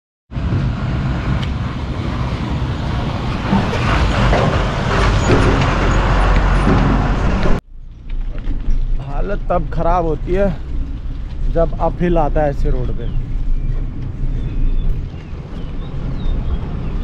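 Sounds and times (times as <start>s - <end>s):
heavy truck rumbling on gravel: 0.4s - 17.0s.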